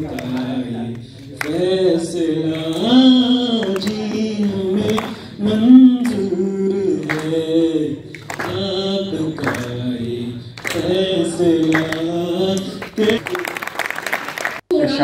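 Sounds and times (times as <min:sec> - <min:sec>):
man singing into microphone: 0:00.0 - 0:13.4.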